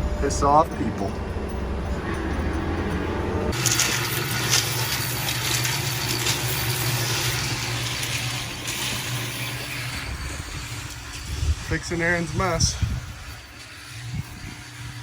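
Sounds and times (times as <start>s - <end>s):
road and wind noise: 0.0s - 15.0s
vehicle engine hum: 0.0s - 15.0s.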